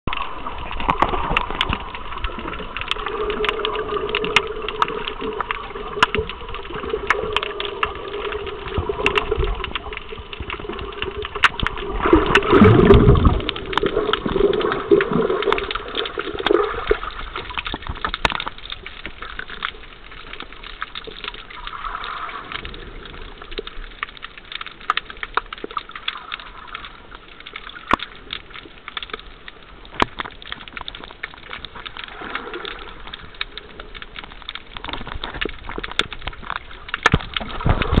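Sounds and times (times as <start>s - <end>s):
underwater rushing and gurgling: 0.1s - 38.0s.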